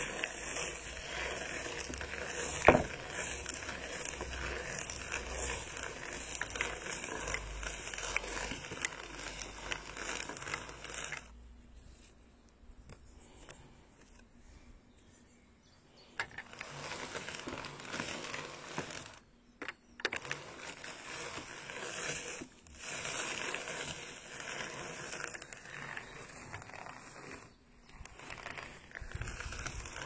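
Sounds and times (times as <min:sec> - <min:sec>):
drum carder brushing: 0:00.0 - 0:12.1, 0:16.2 - 0:19.2, 0:20.1 - 0:30.0.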